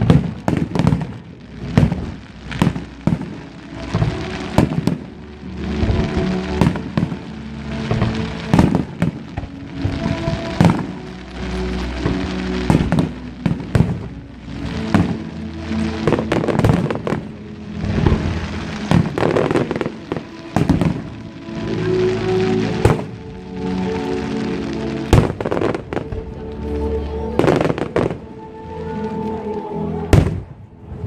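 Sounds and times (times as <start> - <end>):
music playing: 0.0 - 31.0.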